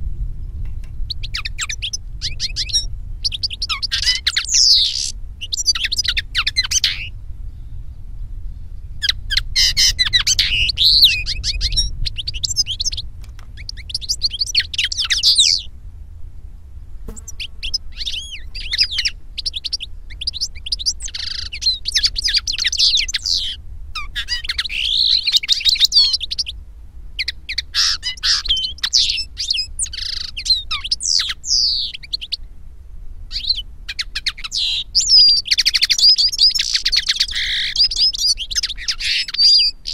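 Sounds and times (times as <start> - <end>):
steady low hum: 0.0 - 34.2
birds twittering and trilling: 0.3 - 15.7, 17.0 - 26.6, 27.2 - 32.5, 33.3 - 39.9.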